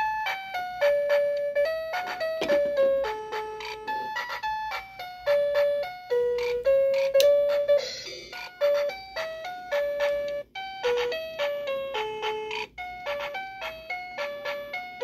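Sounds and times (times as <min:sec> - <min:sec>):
toy keyboard beeping melody: 0:00.0 - 0:15.0.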